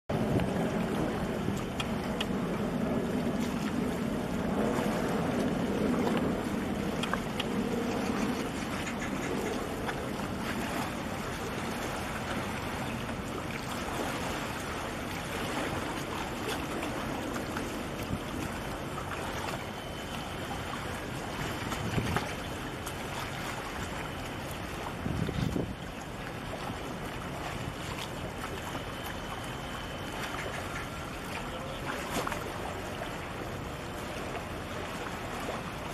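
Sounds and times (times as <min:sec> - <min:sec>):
ship engine low rumble: 0:00.0 - 0:35.9
water noise: 0:00.0 - 0:35.9
wind: 0:00.0 - 0:35.9.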